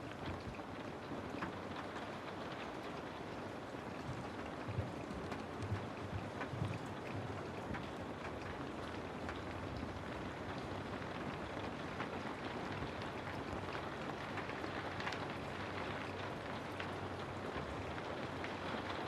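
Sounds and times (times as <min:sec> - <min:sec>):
raindrops ticking: 0:00.0 - 0:19.0
steady rainfall: 0:00.0 - 0:19.0.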